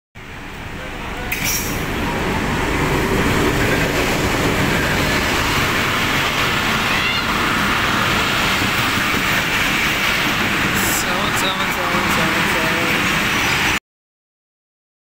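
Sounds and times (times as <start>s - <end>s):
locomotive passing: 0.2s - 13.8s
train wheels on rails: 0.2s - 13.8s.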